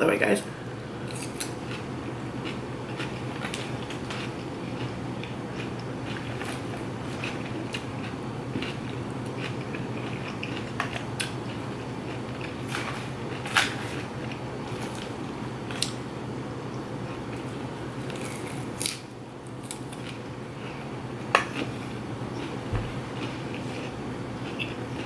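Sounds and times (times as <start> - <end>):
steady low hum: 0.0 - 25.0
chewing and crunching food: 1.0 - 16.0, 17.0 - 25.0.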